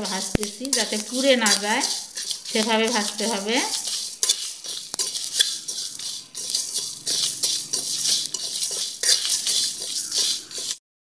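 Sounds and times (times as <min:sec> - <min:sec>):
seeds clicking against a pan: 0:00.0 - 0:10.8
spatula scraping a pan: 0:00.0 - 0:10.8.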